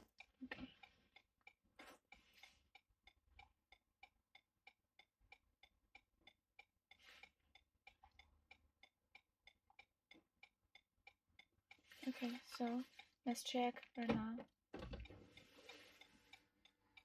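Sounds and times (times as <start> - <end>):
faint even ticking: 0.0 - 17.0.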